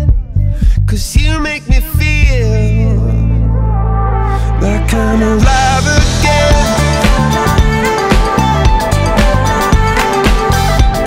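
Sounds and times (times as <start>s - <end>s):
background music with bass chord: 0.0s - 11.0s.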